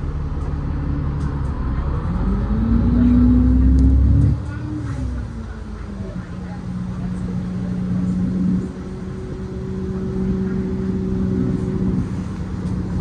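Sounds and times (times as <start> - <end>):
bus drivetrain hum: 0.0 - 13.0.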